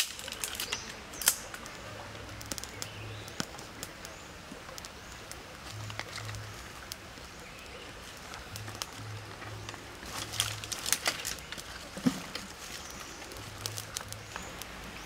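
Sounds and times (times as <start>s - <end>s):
birds chirping faintly: 0.0s - 15.0s
clicks of dry sticks: 0.0s - 15.0s
twig fire crackling: 0.0s - 15.0s.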